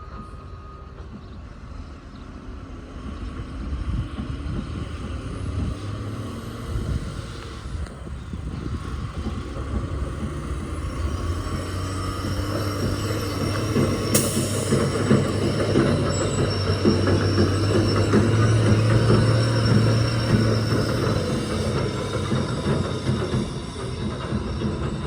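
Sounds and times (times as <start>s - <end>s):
heavy vehicle engine rumble: 0.0s - 25.0s.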